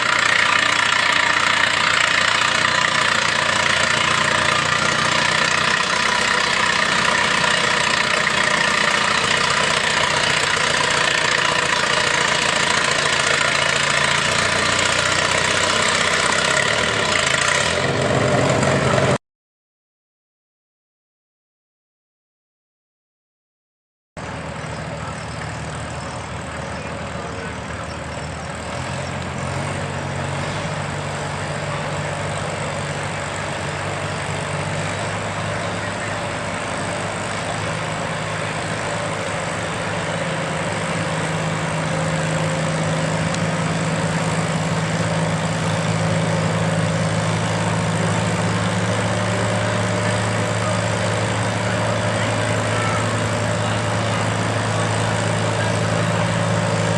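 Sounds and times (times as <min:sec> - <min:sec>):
tractor engine running: 0:00.0 - 0:19.2, 0:24.2 - 0:56.9.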